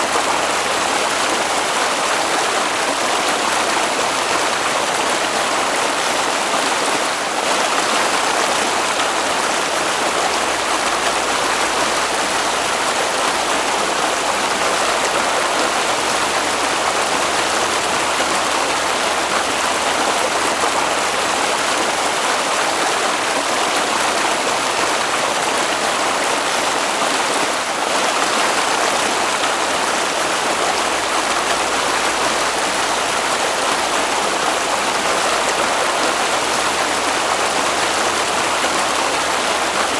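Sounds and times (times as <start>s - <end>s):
water flowing in a stream: 0.0s - 39.9s.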